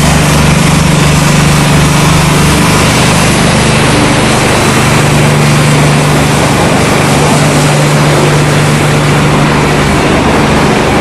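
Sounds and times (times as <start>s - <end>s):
constant low hum: 0.0s - 11.0s
motors and conveyors din: 0.0s - 11.0s.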